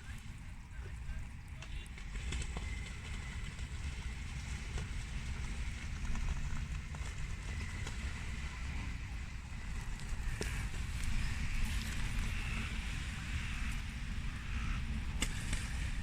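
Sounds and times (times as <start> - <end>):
faint outdoor background noise: 0.0 - 16.0
wind buffeting microphone: 0.0 - 16.0.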